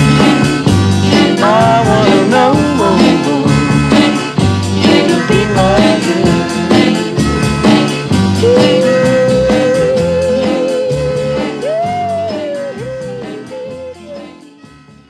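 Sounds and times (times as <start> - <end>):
pop song with drums and guitar: 0.0 - 14.1.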